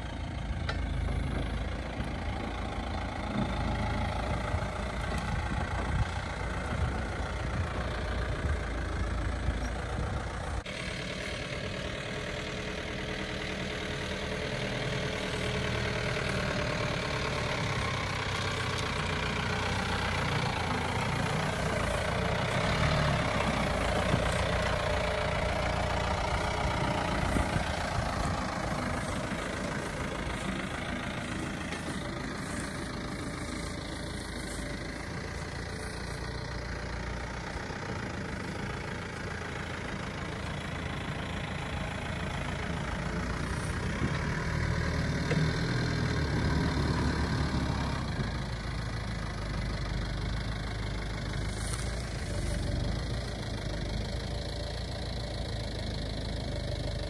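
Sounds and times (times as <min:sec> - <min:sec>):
truck engine at low revs: 0:00.0 - 0:57.0.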